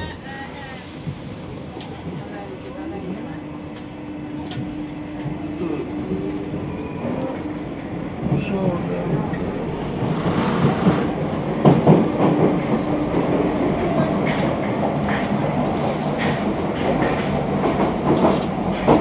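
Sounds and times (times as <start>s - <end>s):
train rumble with humming tone: 0.0s - 19.0s.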